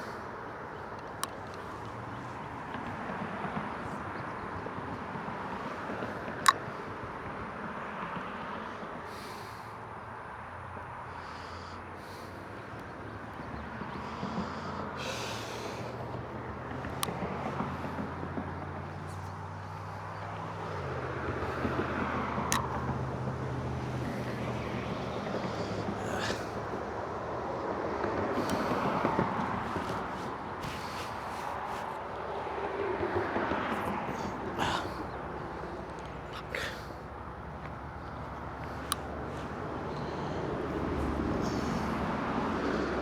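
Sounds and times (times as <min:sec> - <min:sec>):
traffic engine hum: 0:00.0 - 0:43.0
tyre noise of passing vehicles: 0:00.0 - 0:43.0.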